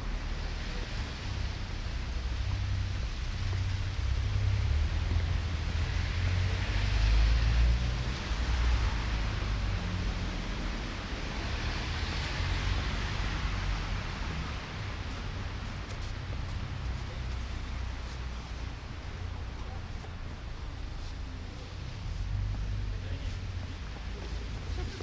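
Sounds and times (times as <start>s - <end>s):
low city rumble: 0.0s - 25.0s.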